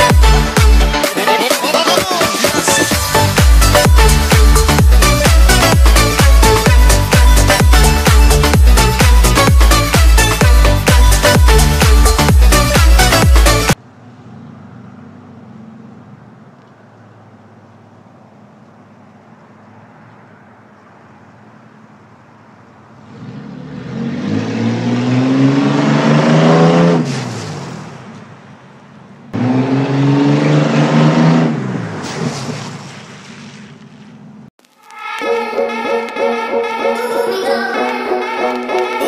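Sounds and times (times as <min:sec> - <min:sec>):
car engine idling and revving: 0:02.5 - 0:34.6.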